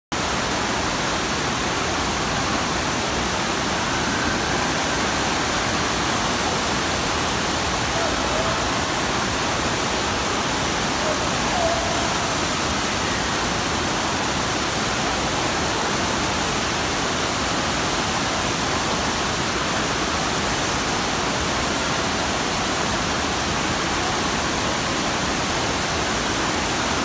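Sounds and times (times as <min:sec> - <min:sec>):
water rushing over ride surface: 0:00.2 - 0:27.0.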